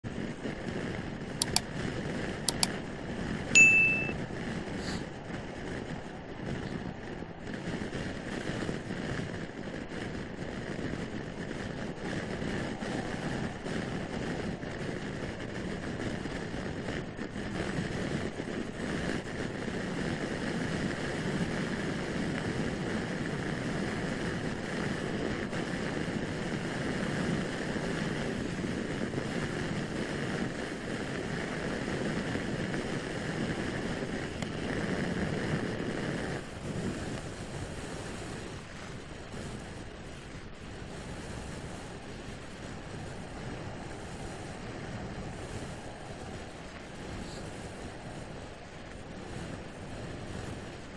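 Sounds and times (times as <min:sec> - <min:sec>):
motor scooter engine and tyres: 0:00.0 - 0:50.9
wind rushing over microphone: 0:00.0 - 0:50.9.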